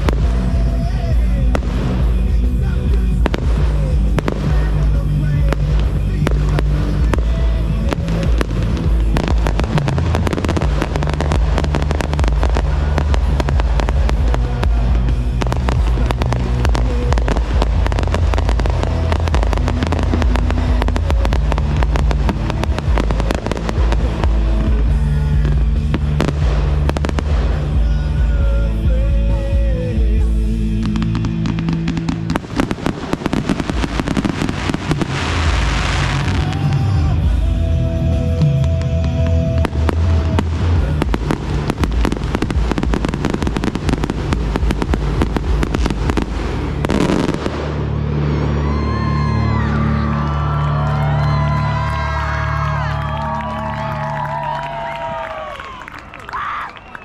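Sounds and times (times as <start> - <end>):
loud music: 0.0 - 56.0
fireworks bangs and crackles: 0.0 - 57.0.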